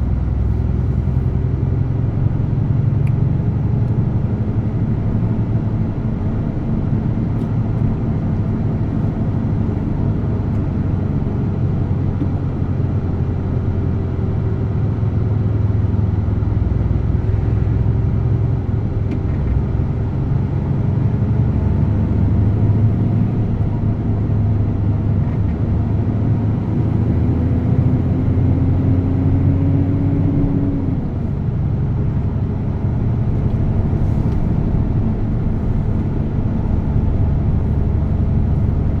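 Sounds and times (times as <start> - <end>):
truck diesel engine droning: 0.0 - 39.0.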